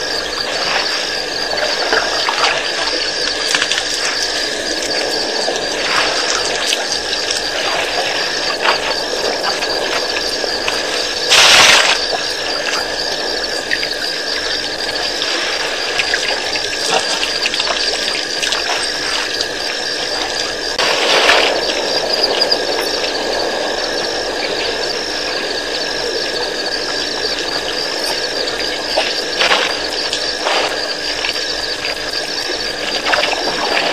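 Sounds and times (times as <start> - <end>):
water splashing and sloshing: 0.0 - 33.9.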